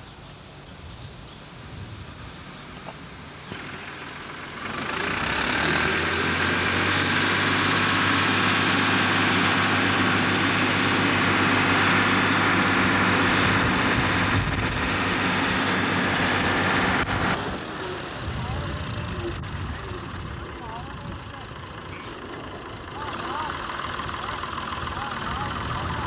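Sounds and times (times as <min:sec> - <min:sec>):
tractor diesel engine running: 0:01.5 - 0:26.0.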